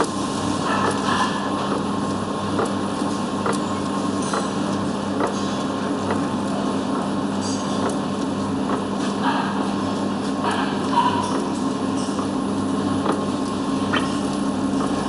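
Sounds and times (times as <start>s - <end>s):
printing press mechanical hum: 0.0s - 15.0s.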